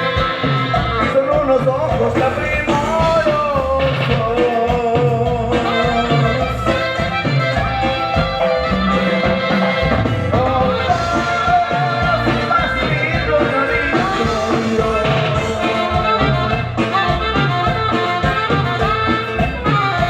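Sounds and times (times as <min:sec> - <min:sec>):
person singing: 0:00.0 - 0:18.8
latin band music: 0:00.0 - 0:20.0
pulsing bass line: 0:00.0 - 0:20.0.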